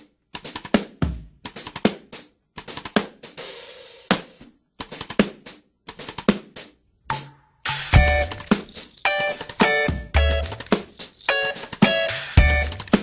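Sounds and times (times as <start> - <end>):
drum kit playing a choppy beat: 0.0 - 13.0.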